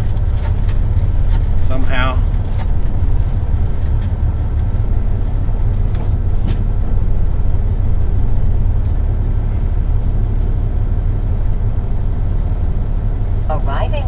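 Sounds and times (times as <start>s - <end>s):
road noise: 0.0s - 14.0s
truck diesel engine rumble: 0.0s - 14.0s.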